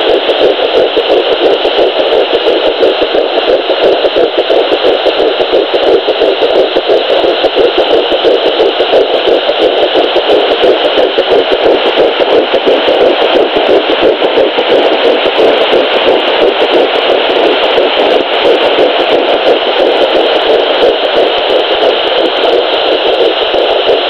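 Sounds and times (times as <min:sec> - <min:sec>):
fast whooshing heartbeat pulse: 0:00.0 - 0:24.0
static hiss: 0:00.0 - 0:24.0.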